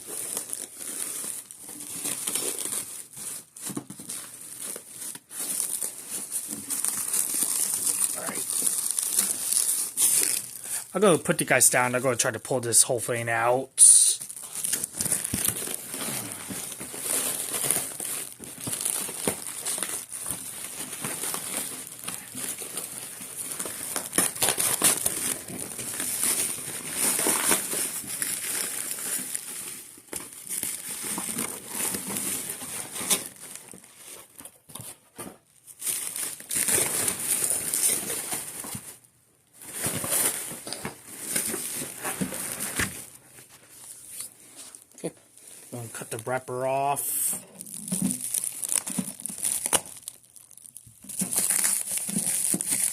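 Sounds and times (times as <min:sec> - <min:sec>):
plastic and box packaging crinkling: 0:00.0 - 0:52.9.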